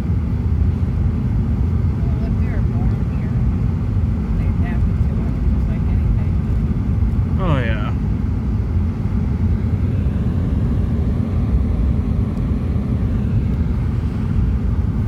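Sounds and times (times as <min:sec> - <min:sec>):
car interior engine and tyre rumble: 0:00.0 - 0:15.0.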